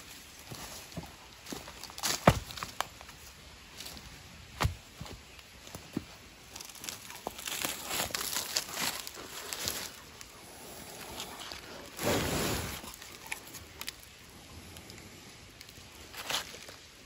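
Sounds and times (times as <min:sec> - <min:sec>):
rustling of handled log: 0:00.0 - 0:17.0.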